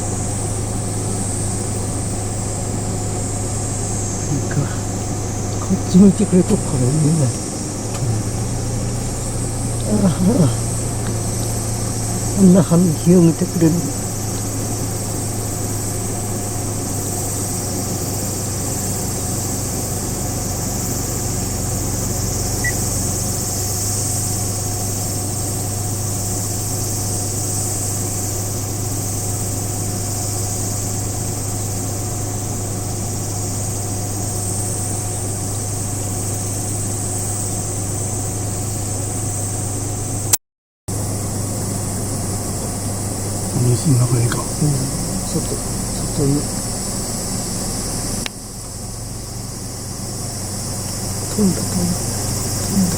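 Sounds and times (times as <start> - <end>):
insects droning: 0.0 - 40.3, 40.9 - 52.9
engine idling: 0.0 - 52.9.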